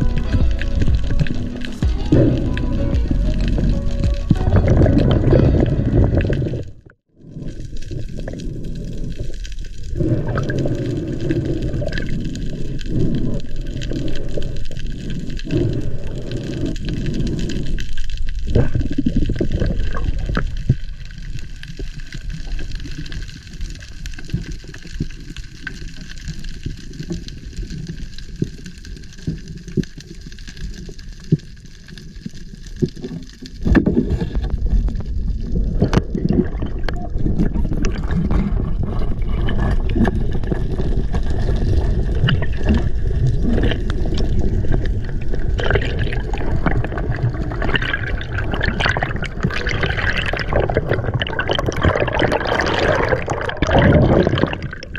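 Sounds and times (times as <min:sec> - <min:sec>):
water sloshing and gurgling: 0:00.0 - 0:54.9.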